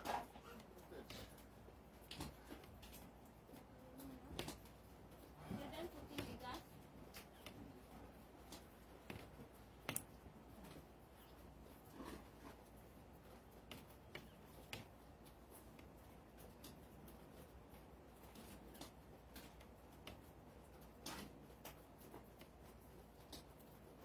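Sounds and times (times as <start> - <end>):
faint clicks and taps: 0.0 - 24.0.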